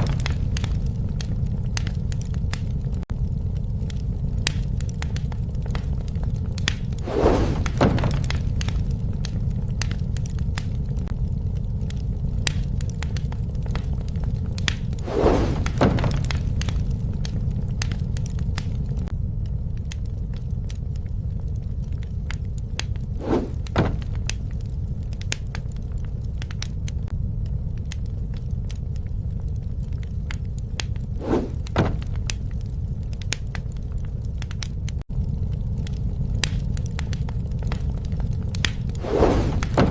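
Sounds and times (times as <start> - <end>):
bonfire roar: 0.0 - 39.9
fire crackling: 0.0 - 39.9
loud double crackle: 0.0 - 39.9.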